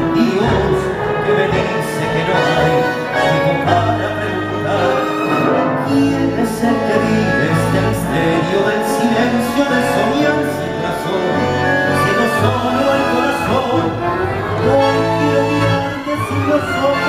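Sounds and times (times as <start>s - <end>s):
bandoneons: 0.0s - 17.0s
double bass: 0.0s - 17.0s
man singing: 0.0s - 17.0s
piano: 0.0s - 17.0s
violins: 0.0s - 17.0s.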